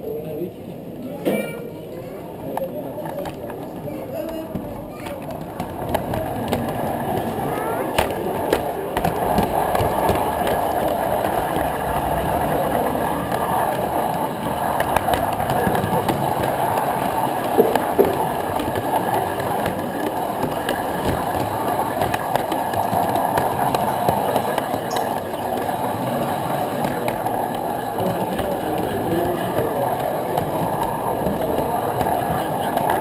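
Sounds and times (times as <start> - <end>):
model train wheels rumbling on rails: 2.0 - 33.0
clicks over rail joints: 2.5 - 33.0.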